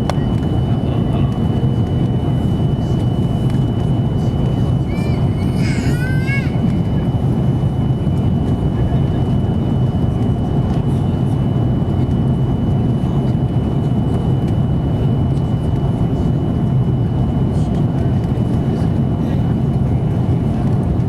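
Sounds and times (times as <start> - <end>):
engine and airflow rumble: 0.0 - 21.0.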